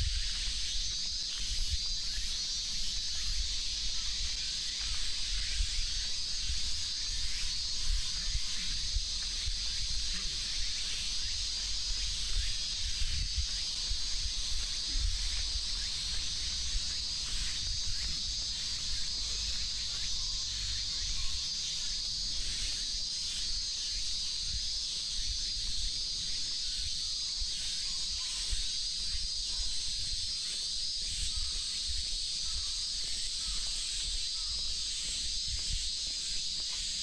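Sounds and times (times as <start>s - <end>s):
cicadas droning: 0.0s - 37.0s.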